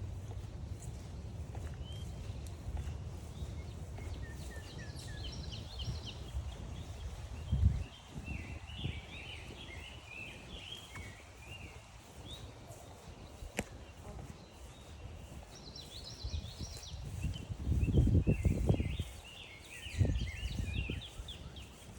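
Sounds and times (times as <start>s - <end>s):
low rumble of walking: 0.0s - 21.9s
songbird chirping: 0.0s - 21.9s.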